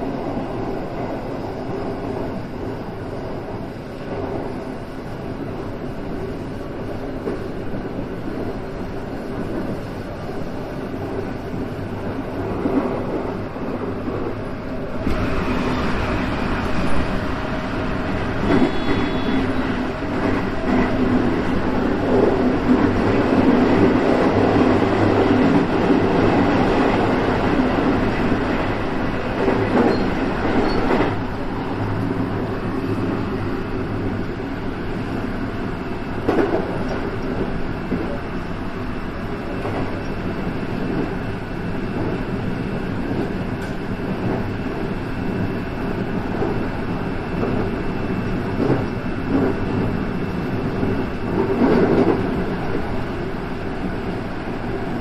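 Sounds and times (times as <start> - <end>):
electric train running noise: 10.6 - 55.0.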